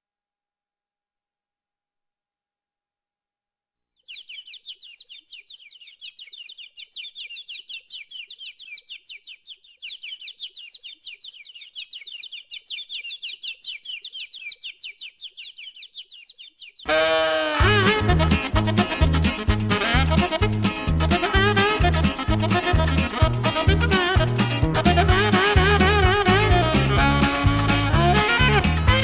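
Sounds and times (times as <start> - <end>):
small birds chirping: 3.9 - 29.0.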